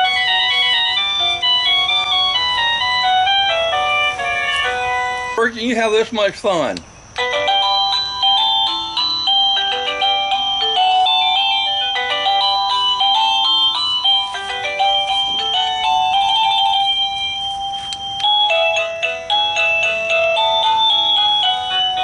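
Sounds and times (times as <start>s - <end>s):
doorbell chime melody: 0.0s - 5.4s, 7.2s - 22.0s.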